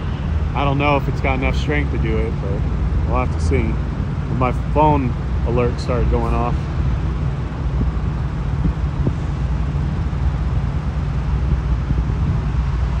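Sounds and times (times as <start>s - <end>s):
diesel truck engines idling: 0.0s - 13.0s.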